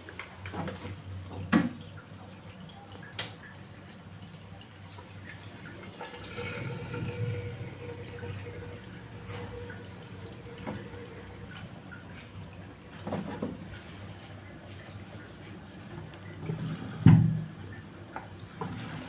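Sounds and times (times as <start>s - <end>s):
water splashing into washing machine: 0.0s - 19.0s.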